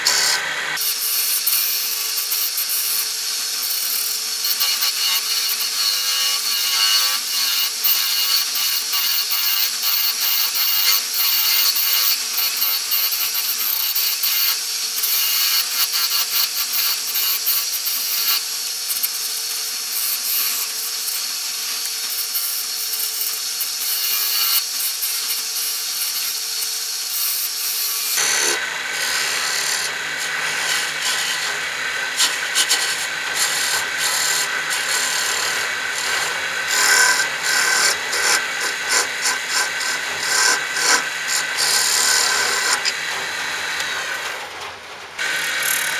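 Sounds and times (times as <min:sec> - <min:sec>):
wood lathe cutting hiss: 0:00.0 - 0:45.9.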